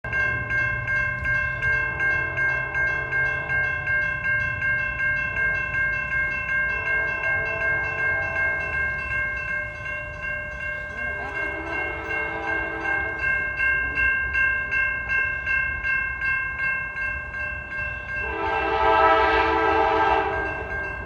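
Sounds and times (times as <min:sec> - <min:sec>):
crossing warning bell ringing: 0:00.0 - 0:21.0
train rumble: 0:00.0 - 0:21.0.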